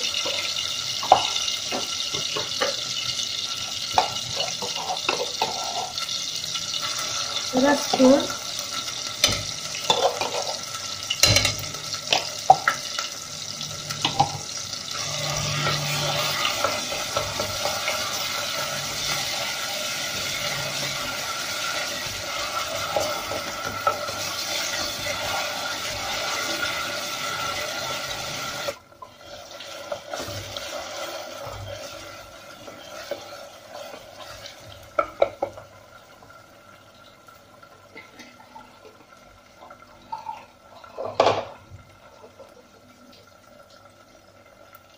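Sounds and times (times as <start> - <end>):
food frying in hot oil: 0.0 - 44.9.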